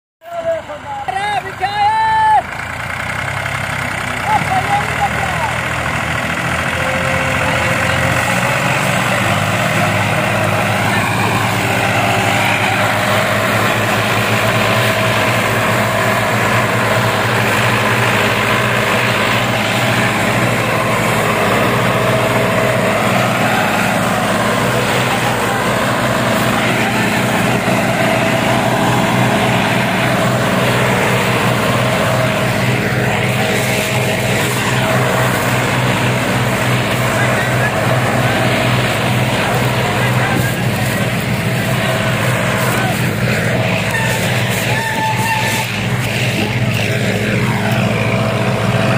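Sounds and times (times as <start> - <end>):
tractor diesel engine running: 0.2 - 48.9.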